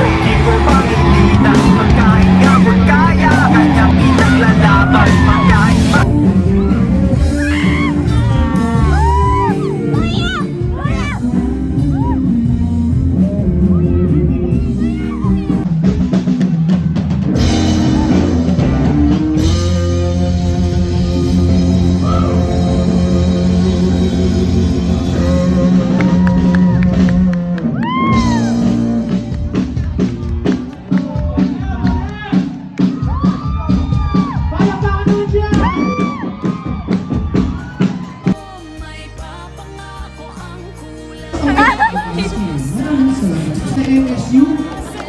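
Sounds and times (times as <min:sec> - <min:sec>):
loud rock music with guitar: 0:00.0 - 0:45.0.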